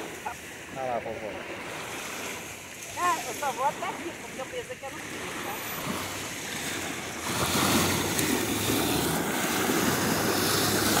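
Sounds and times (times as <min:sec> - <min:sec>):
small waves washing over shallows: 0:00.0 - 0:11.0.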